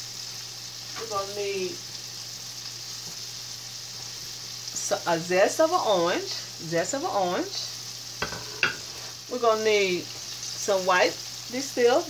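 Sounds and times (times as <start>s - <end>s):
chicken frying in oil: 0.0s - 12.0s.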